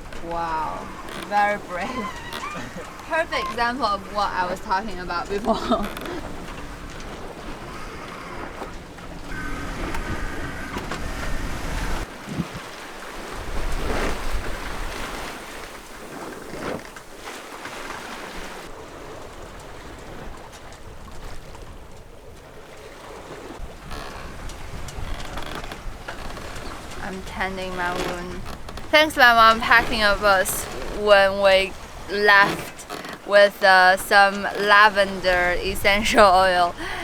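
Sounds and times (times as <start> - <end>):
water rushing along a hull: 0.0 - 37.0
wind buffeting microphone: 0.0 - 37.0.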